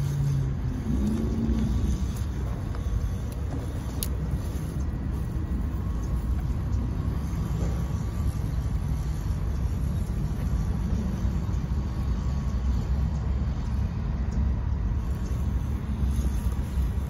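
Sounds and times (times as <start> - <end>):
low rumble: 0.0 - 17.0
small electric motor whine: 0.0 - 17.0.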